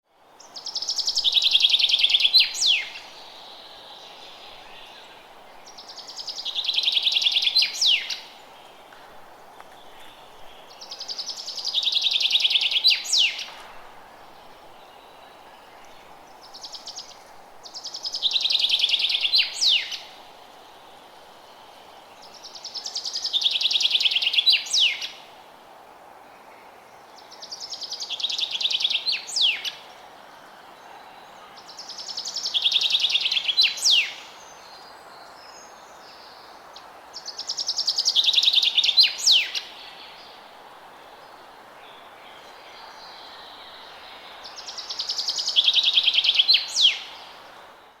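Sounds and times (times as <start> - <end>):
faint background noise: 0.0 - 48.0.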